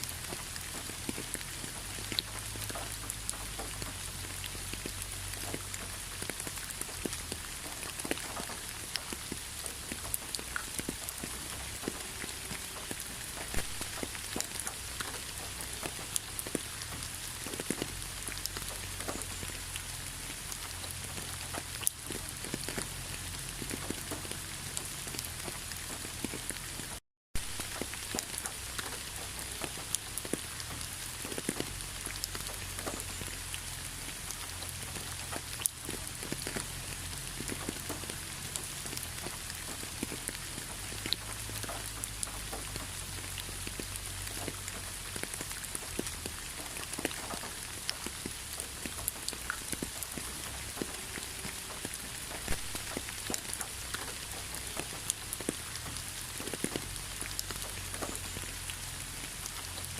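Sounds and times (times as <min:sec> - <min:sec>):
rain falling: 0:00.0 - 0:59.9
raindrops ticking on a surface: 0:00.0 - 0:59.9.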